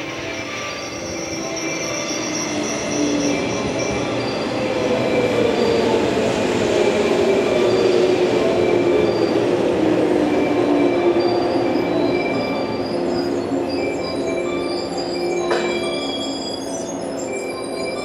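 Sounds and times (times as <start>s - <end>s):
high wheel squeals: 0.0s - 6.3s, 7.5s - 18.0s.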